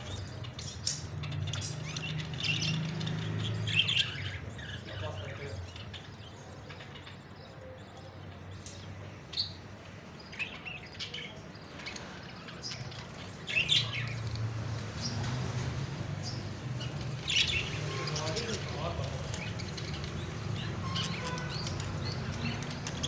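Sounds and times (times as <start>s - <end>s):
parrots chirping: 0.0s - 23.0s.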